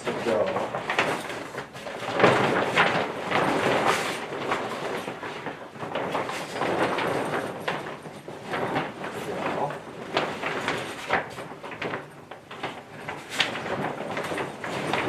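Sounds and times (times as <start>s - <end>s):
tent fabric rustling and scraping: 0.0s - 15.0s.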